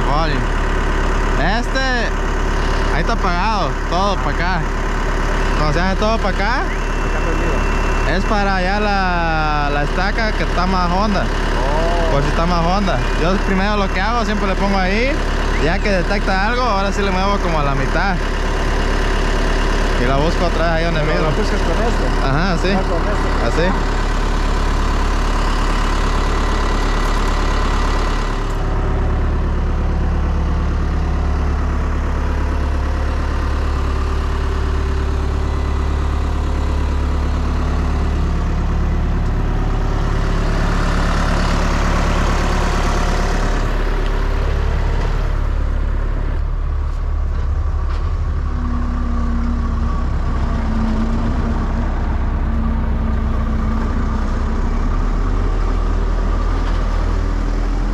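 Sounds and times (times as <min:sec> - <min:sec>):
vehicle engine and road noise: 0:00.0 - 0:57.9.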